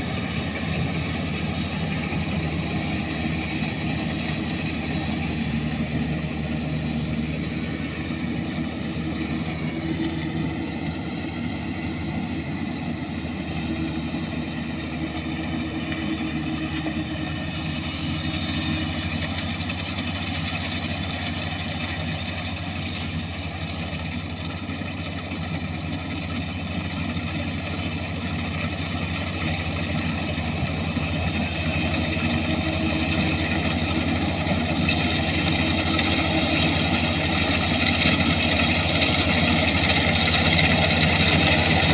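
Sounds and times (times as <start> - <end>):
combine harvester diesel engine drone: 0.0 - 41.9.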